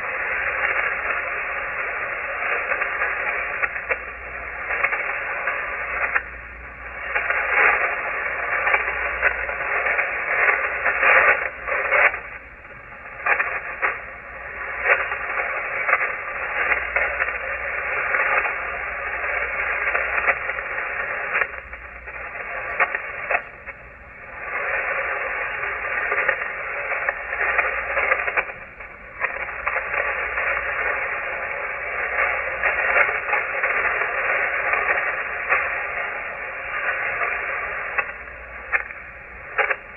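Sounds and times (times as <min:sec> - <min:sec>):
radio static hiss and crackle: 0:00.0 - 0:39.9.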